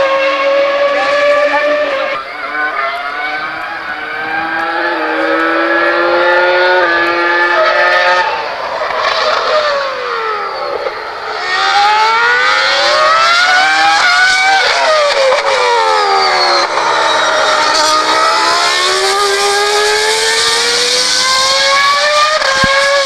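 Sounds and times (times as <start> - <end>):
racing car engine at high revs: 0.0 - 23.0.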